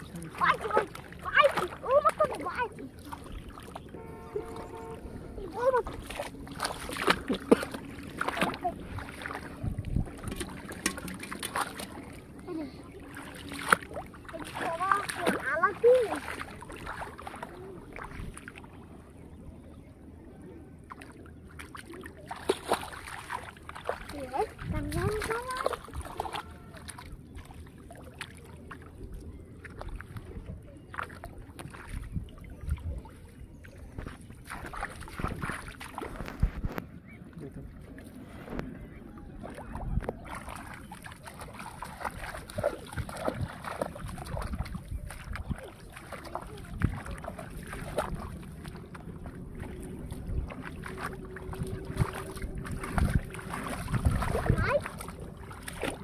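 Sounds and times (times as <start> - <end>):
hands sloshing in muddy water: 0.0 - 56.0
small water splashes: 0.0 - 56.0.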